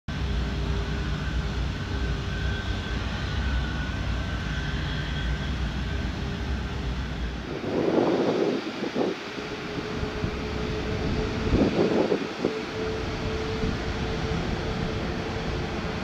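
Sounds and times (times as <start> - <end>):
jet engines taxiing: 0.1 - 16.0
rush of wind noise: 0.1 - 16.0.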